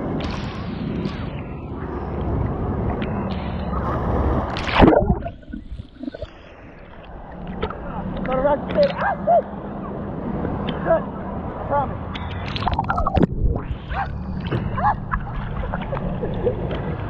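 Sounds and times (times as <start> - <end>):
sea water sloshing: 0.0 - 17.0
wave slapping: 0.0 - 17.0.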